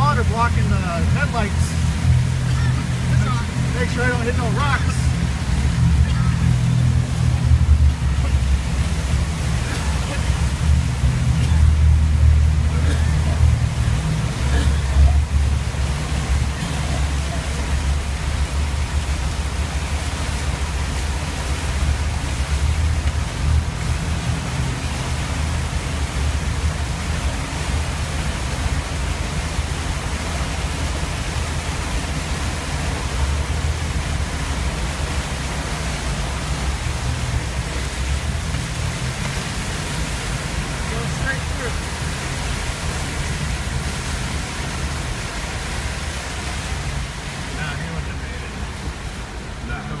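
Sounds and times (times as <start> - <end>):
vehicle driving through tall grass: 0.0 - 50.0.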